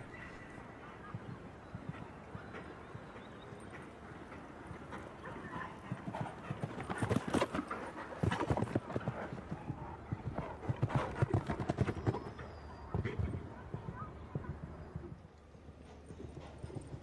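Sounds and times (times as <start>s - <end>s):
horse hoofbeats on grass: 1.0s - 17.0s.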